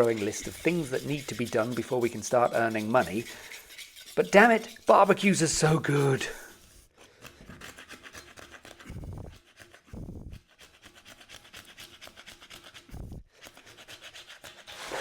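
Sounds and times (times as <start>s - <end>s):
scrubbing on metal cylinder: 0.0s - 15.0s.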